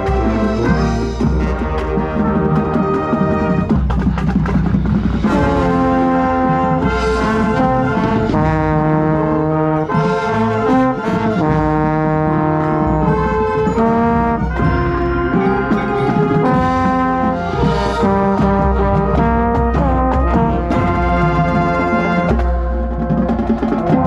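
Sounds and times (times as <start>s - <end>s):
marching band brass chords: 0.0s - 24.0s.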